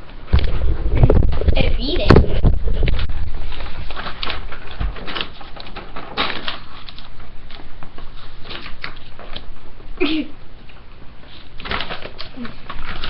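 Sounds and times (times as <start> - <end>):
rabbit chewing paper: 0.3 - 9.8, 10.6 - 13.0.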